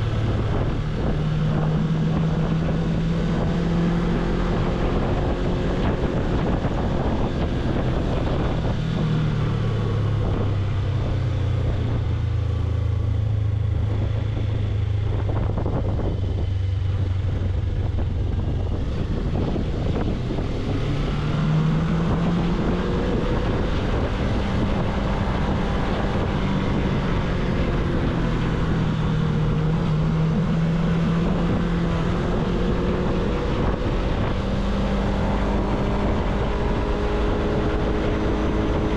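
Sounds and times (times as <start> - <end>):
motorcycle engine running: 0.0 - 38.9
wind on microphone: 0.0 - 38.9.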